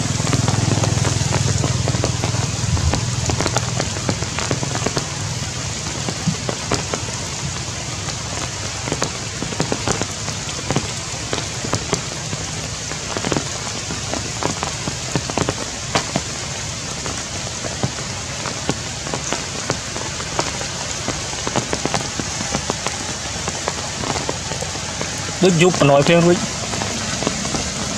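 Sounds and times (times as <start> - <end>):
heavy rain on leaves: 0.0 - 27.9.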